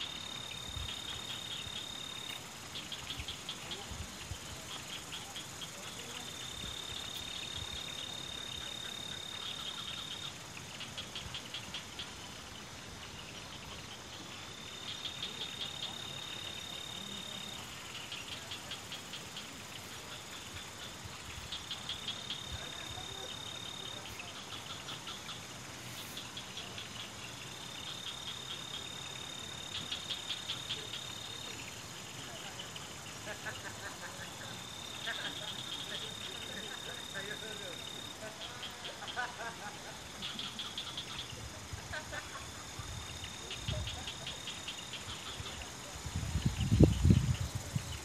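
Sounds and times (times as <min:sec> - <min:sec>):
insect trilling: 0:00.0 - 0:48.0
steady hiss: 0:00.0 - 0:48.0.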